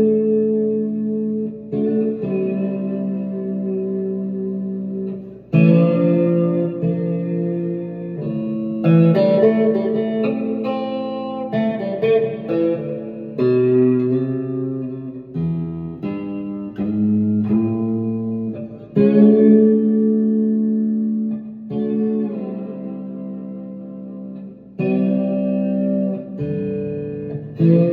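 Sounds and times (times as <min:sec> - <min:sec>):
clean electric guitar: 0:00.0 - 0:27.9.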